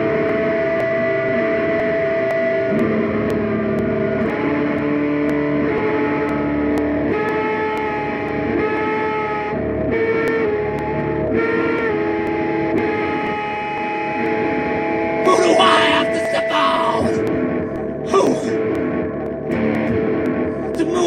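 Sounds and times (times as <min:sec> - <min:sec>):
distorted electric guitar rock: 0:00.0 - 0:21.0.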